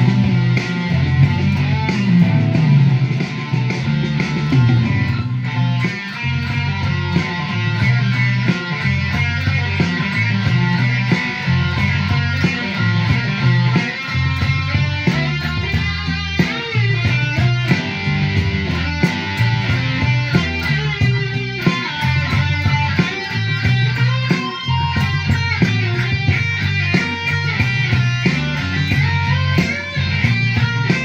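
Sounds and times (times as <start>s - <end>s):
bass: 0.0s - 31.0s
drums: 0.0s - 31.0s
electric guitar lead line: 0.0s - 31.0s.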